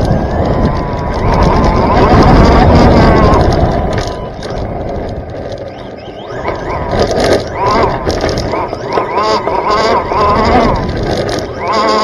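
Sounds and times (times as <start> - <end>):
rc car motor whine: 0.0 - 12.0
tyre and chassis rattle: 0.0 - 12.0.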